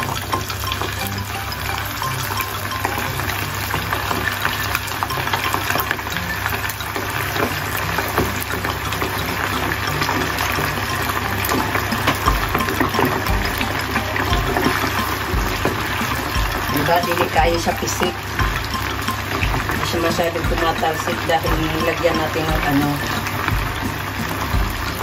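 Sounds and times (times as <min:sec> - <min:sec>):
chicken deep-frying in oil: 0:00.0 - 0:25.0.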